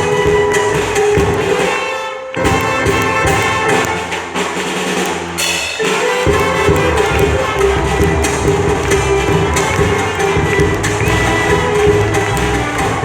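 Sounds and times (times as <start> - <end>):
dance orchestra playing: 0.0 - 13.0.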